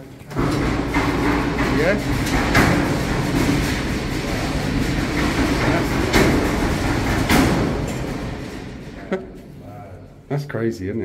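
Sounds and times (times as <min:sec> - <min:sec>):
shelving rolling on floor rails: 0:00.0 - 0:10.1
knocks: 0:00.3 - 0:09.5.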